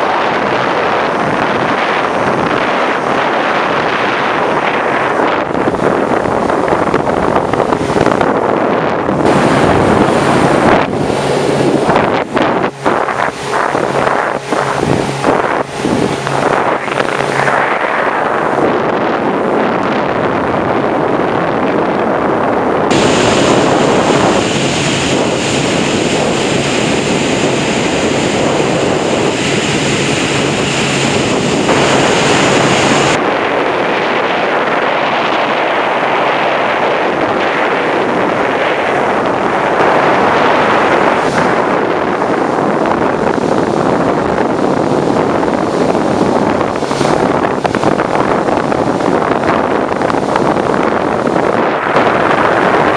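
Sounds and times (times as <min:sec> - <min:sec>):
boat engine drone: 0:00.0 - 0:52.9
water rushing past hull: 0:00.0 - 0:52.9
wind noise on microphone: 0:00.0 - 0:52.9.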